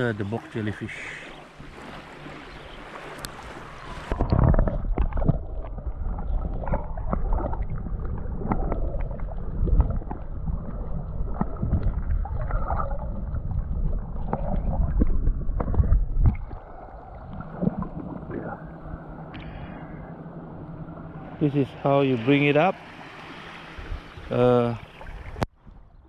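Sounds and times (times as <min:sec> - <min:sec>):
water rumbling underwater: 0:00.0 - 0:26.0.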